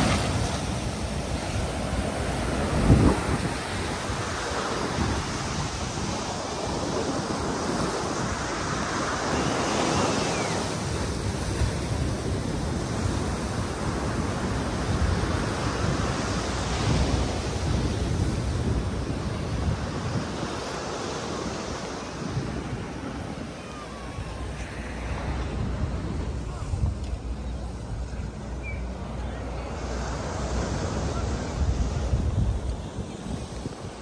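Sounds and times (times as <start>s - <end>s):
wind buffeting microphone: 0.0s - 29.0s, 30.4s - 34.0s
ocean surf washing in: 0.0s - 34.0s.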